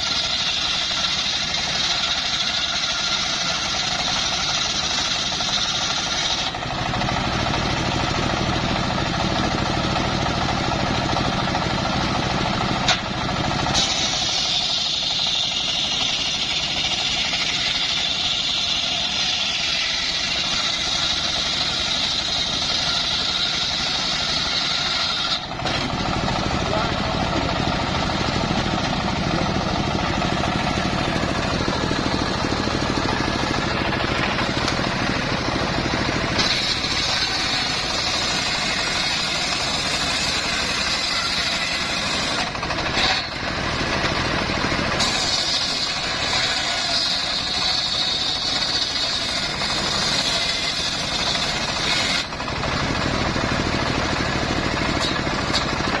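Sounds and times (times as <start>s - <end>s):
engine running: 0.0s - 56.0s
saw blade cutting whine: 0.0s - 56.0s.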